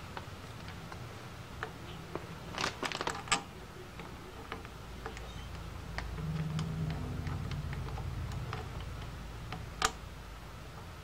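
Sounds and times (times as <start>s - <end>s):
metal parts clicking and tapping: 0.0s - 10.0s.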